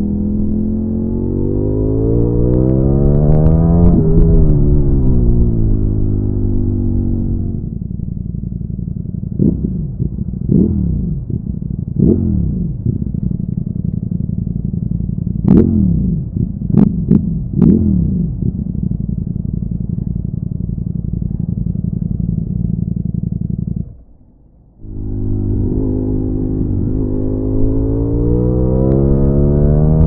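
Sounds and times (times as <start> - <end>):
motorcycle engine revving: 0.0 - 30.0
exhaust cracks: 1.4 - 30.0.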